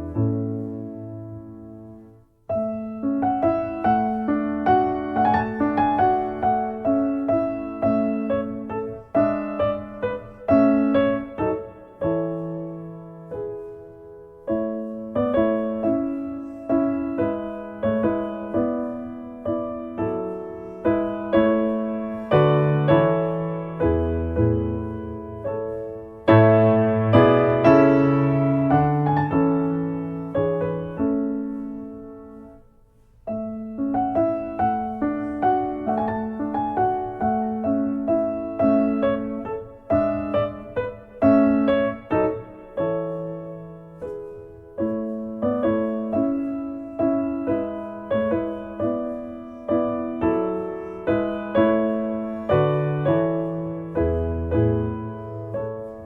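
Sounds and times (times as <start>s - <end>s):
slow solo piano piece: 0.0s - 56.0s.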